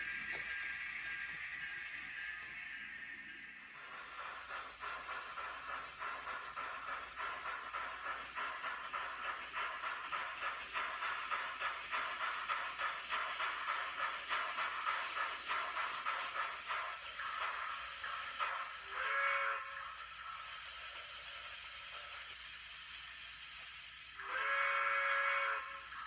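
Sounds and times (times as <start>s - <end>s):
steam locomotive chuffing: 0.0s - 26.0s.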